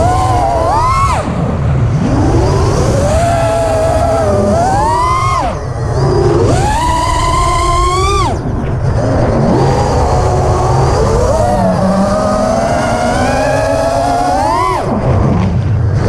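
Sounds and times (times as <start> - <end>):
quadcopter motors whining: 0.0 - 1.3, 1.9 - 15.0
steady low rumble: 0.0 - 16.0.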